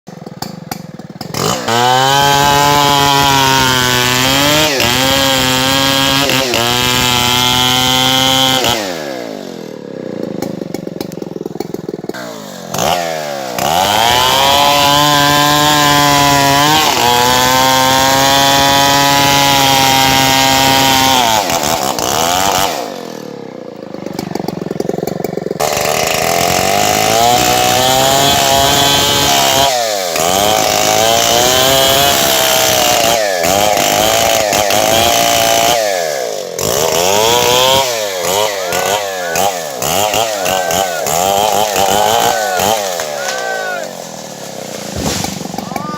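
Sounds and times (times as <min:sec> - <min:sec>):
chainsaw cutting into tree: 0:00.1 - 0:45.9.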